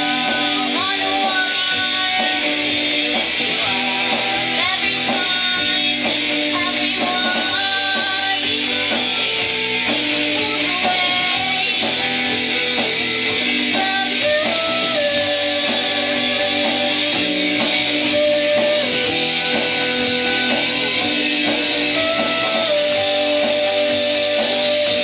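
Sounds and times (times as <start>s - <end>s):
bass guitar: 0.0s - 25.0s
drums: 0.0s - 25.0s
electric lead guitar: 0.0s - 25.0s.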